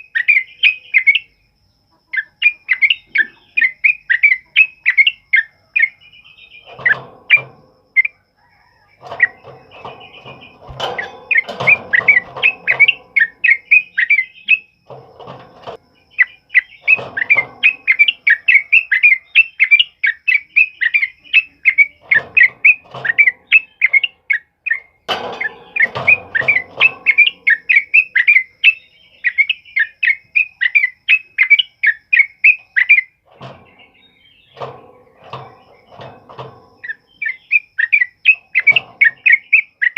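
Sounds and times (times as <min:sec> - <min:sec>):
bird singing chirping song: 0:00.0 - 0:39.9
bird chattering: 0:02.1 - 0:39.9.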